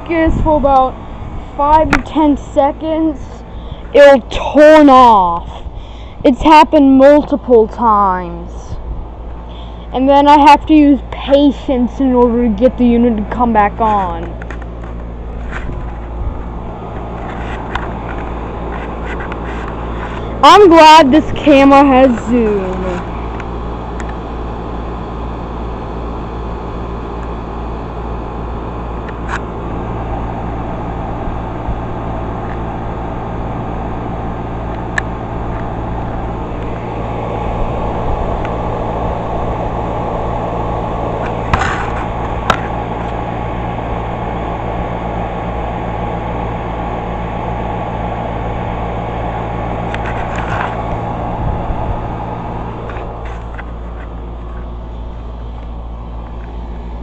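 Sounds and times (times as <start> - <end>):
compressor hum: 0.0 - 57.0
condenser fan rushing: 0.0 - 57.0.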